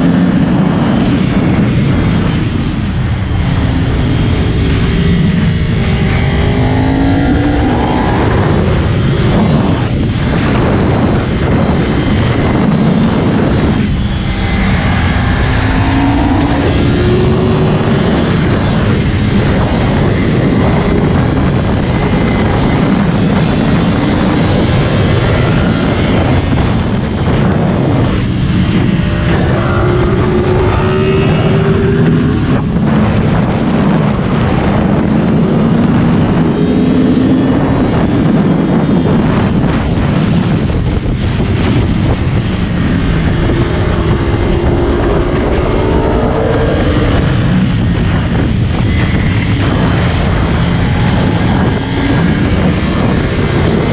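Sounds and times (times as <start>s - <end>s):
motorcycle engine revving high: 0.0s - 53.9s
wind rush on microphone: 0.0s - 53.9s.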